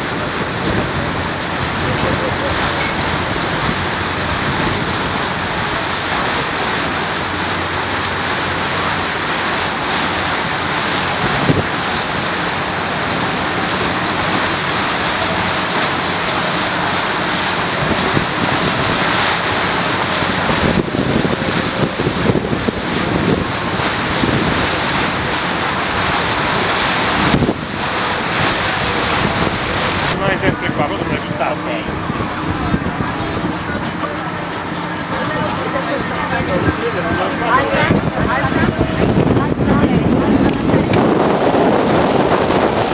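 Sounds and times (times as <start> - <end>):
water wash from moving boat: 0.0 - 42.9
wind buffeting microphone: 0.0 - 42.9.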